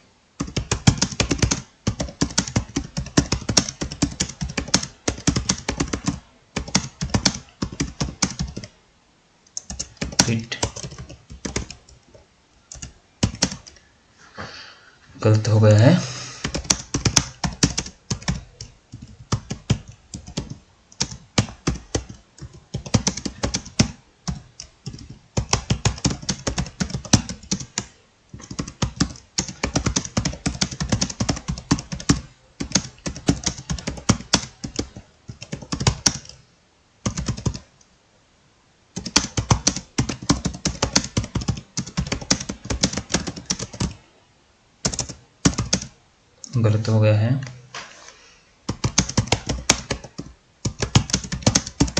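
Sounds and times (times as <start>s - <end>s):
typing on laptop keyboard: 0.4s - 8.8s, 9.5s - 12.0s, 12.7s - 13.8s, 16.4s - 36.4s, 37.0s - 37.7s, 38.9s - 44.0s, 44.8s - 46.0s, 48.7s - 51.9s.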